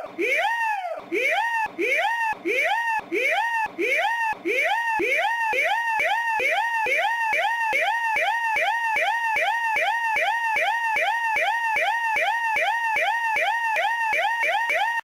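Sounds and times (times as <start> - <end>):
siren wailing in yelp mode: 0.0 - 15.0.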